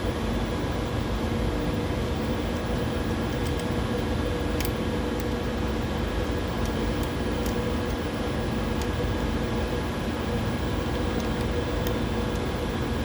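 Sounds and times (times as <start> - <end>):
lab equipment humming: 0.0 - 13.0.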